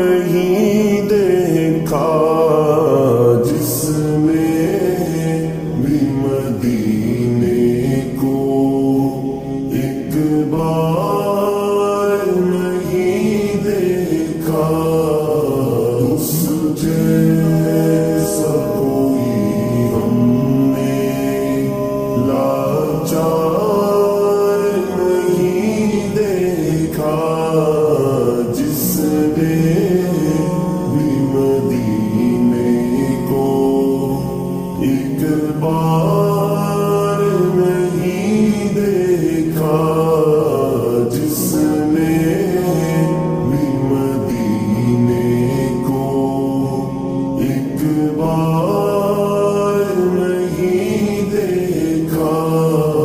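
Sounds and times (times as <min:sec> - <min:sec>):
voices singing devotional hymn: 0:00.0 - 0:53.0.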